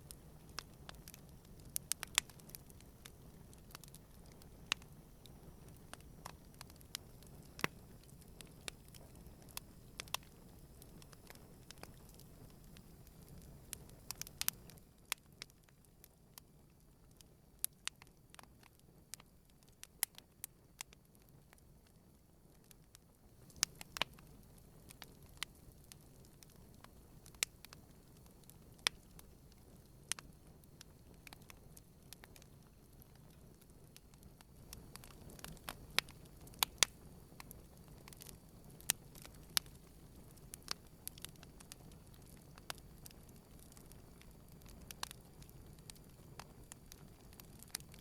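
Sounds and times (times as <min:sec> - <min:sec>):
campfire crackling and popping: 0:00.0 - 0:48.0
low rumble of flames: 0:00.0 - 0:48.0.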